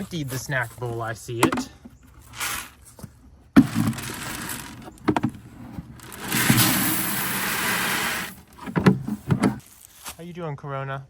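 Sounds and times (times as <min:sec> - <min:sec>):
bag rustling: 0:00.0 - 0:10.0.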